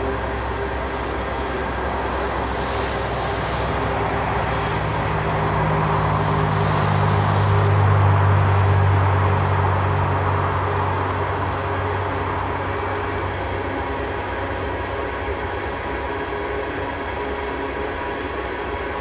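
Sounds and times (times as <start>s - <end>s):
diesel locomotive engine drone: 0.0s - 19.0s
train rumble: 0.0s - 19.0s.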